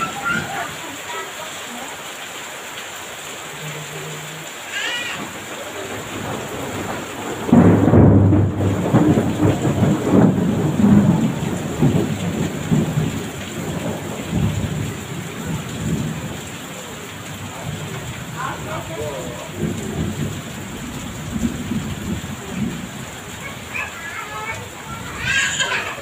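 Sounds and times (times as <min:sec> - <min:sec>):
heavy rain falling: 0:00.0 - 0:26.0
thunder rumbling: 0:05.2 - 0:26.0.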